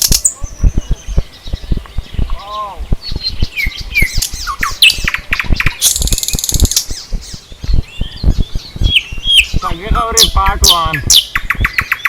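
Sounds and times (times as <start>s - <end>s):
short low thumps: 0.0s - 12.0s
wild birds chirping: 0.0s - 12.0s.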